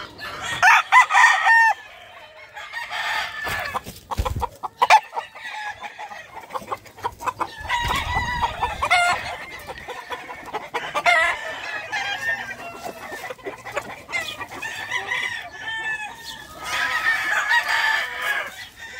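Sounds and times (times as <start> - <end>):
chickens clucking: 0.0 - 18.9
roosters crowing: 0.0 - 18.9.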